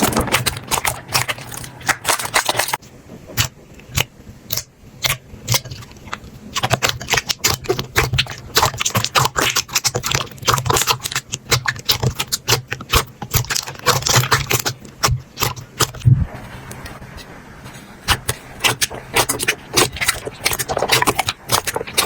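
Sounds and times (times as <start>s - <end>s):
slime crackling by hand: 0.0s - 17.3s, 18.0s - 22.0s.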